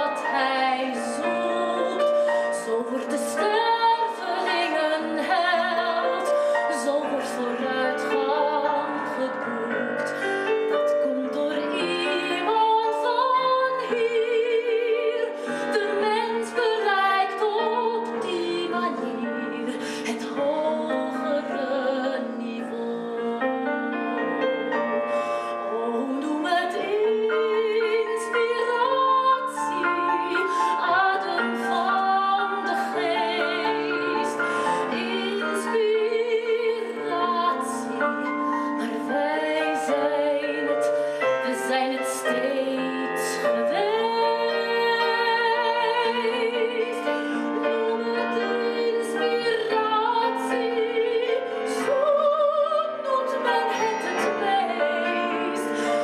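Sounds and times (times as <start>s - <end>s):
woman singing operatically: 0.0s - 24.0s, 25.6s - 56.0s
instrumental accompaniment: 0.0s - 56.0s.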